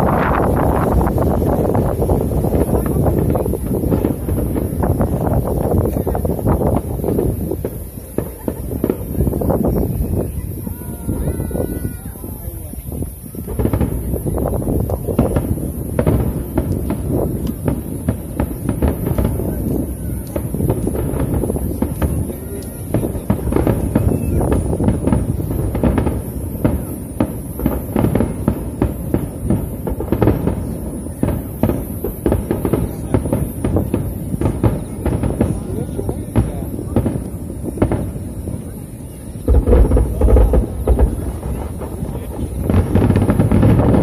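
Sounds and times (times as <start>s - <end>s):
firework shells bursting: 0.0s - 44.0s.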